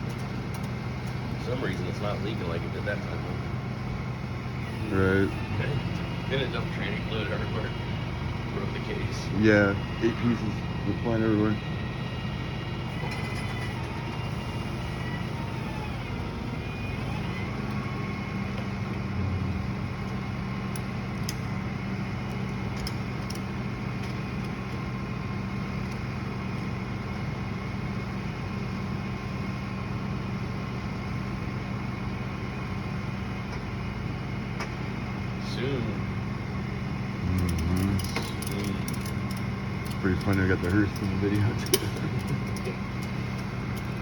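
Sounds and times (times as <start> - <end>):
low engine hum: 0.0 - 44.0.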